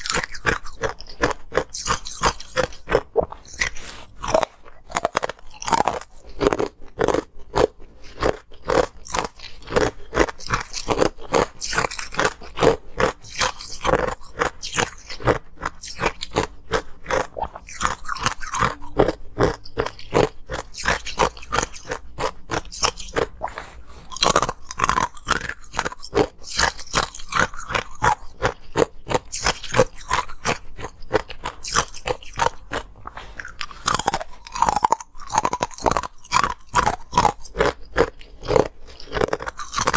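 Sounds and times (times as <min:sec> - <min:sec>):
ice being chewed and crunched: 0:00.0 - 0:39.9.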